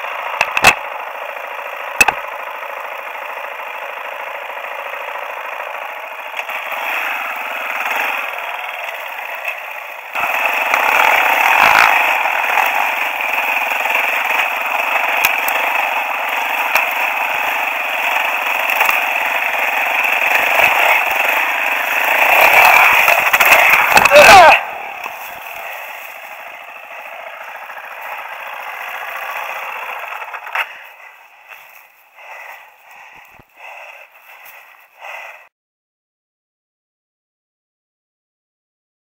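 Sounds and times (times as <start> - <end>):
motorcycle engine running: 0.0 - 35.5.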